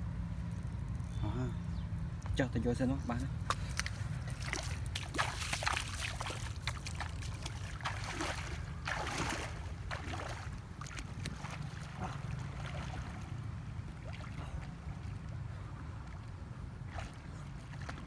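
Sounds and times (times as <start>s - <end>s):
steady low rumble: 0.0s - 18.0s
legs splashing through water: 3.3s - 18.0s.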